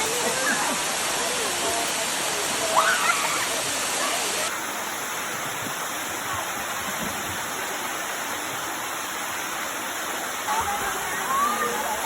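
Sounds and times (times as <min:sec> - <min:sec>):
waterfall splashing over rocks: 0:00.0 - 0:12.0.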